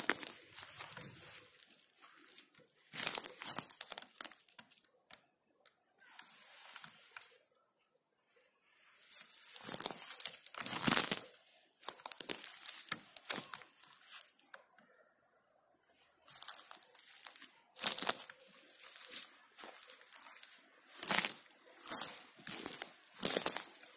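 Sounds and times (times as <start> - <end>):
footsteps crunching on pine needles: 0.0 - 4.9, 6.1 - 7.4, 8.9 - 14.4, 16.2 - 23.9.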